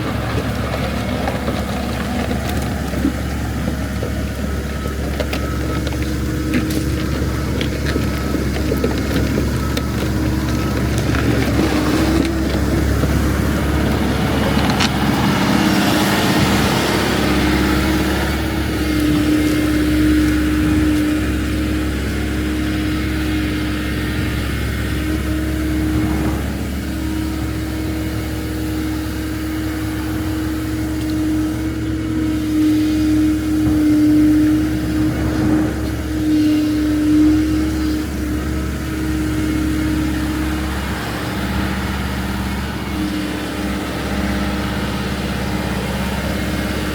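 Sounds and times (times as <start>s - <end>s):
constant whine: 0.0s - 46.9s
diesel engine running: 0.0s - 46.9s.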